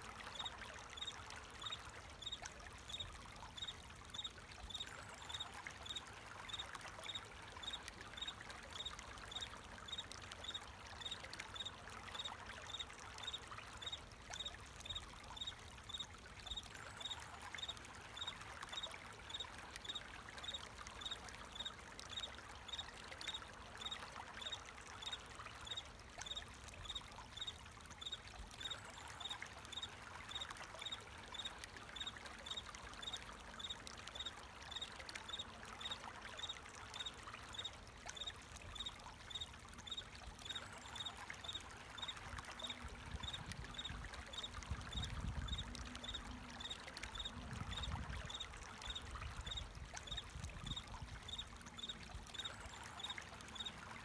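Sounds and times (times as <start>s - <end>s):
running water trickling: 0.0s - 54.0s.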